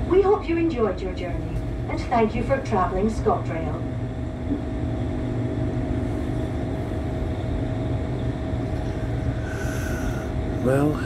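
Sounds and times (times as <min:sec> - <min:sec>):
steady hum: 0:00.0 - 0:11.0
train rumble inside carriage: 0:00.0 - 0:11.0.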